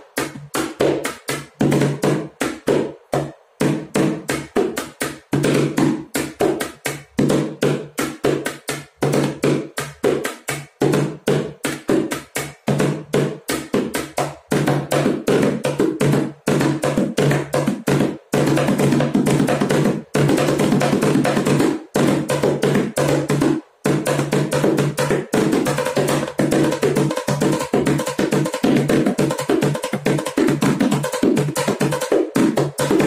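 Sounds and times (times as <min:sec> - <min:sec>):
plastic bucket drumming: 0:00.1 - 0:33.0.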